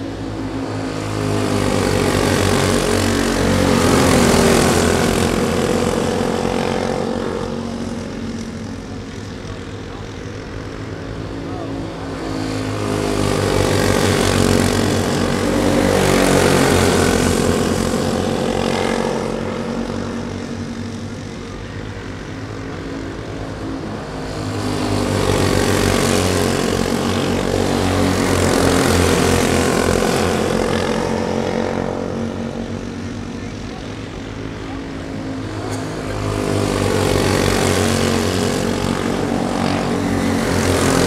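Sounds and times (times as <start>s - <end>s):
go-kart engines racing: 0.0s - 41.0s.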